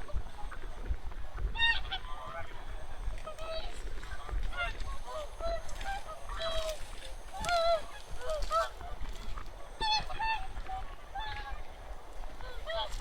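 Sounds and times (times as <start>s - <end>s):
geese and swans honking: 1.4s - 13.0s.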